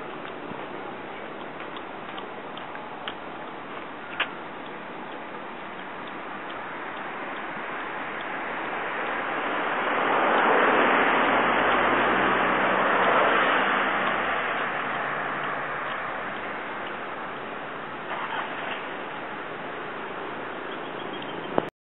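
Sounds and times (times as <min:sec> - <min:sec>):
vehicle engine hum and tyre noise: 0:00.0 - 0:21.7.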